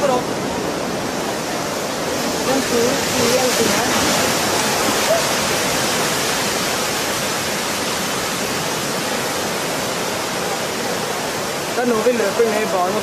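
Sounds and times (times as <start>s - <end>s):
surge water rushing ashore: 0.0s - 13.0s.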